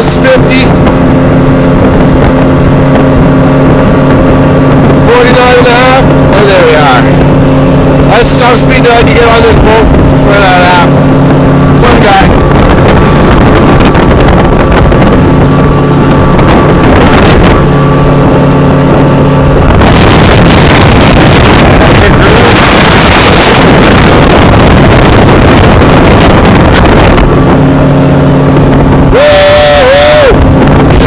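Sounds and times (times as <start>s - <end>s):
outboard motor at full throttle: 0.0s - 31.0s
wind buffeting microphone: 0.0s - 31.0s.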